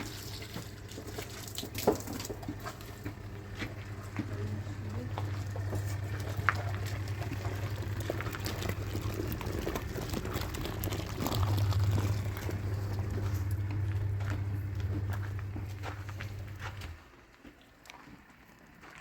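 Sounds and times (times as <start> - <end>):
washing machine motor hum: 0.0 - 18.9
water sloshing in washing machine: 0.0 - 19.0.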